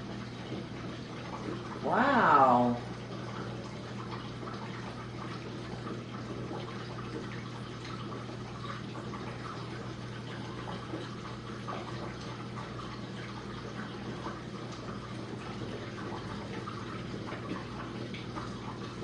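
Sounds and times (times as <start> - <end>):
pump motor hum: 0.0 - 19.0
water splashing in dishwasher: 0.0 - 19.0.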